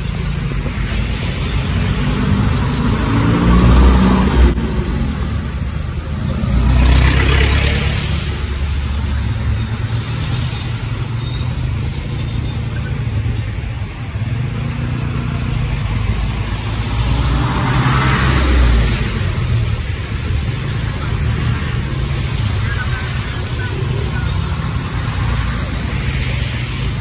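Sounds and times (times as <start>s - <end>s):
tyres spraying through water: 0.0s - 27.0s.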